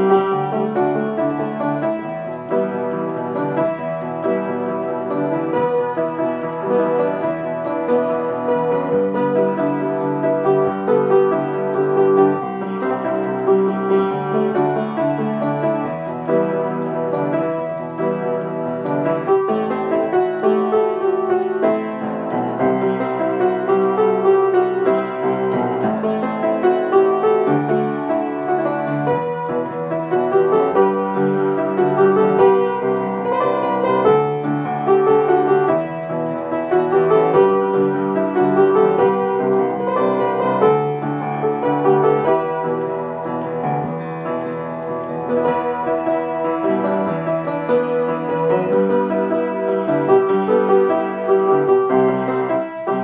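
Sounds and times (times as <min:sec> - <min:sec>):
upright piano playing: 0:00.0 - 0:53.0.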